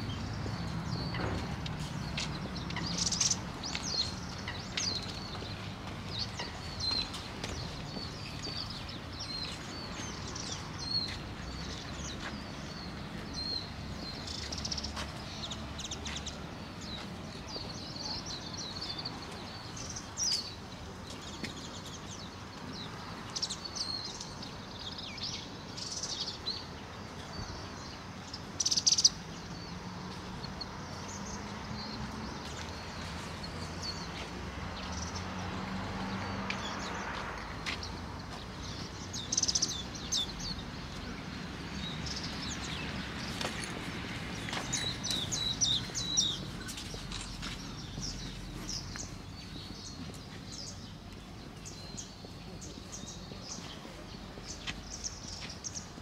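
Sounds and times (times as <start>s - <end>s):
low outdoor background noise: 0.0s - 56.0s
small birds chirping: 0.0s - 56.0s.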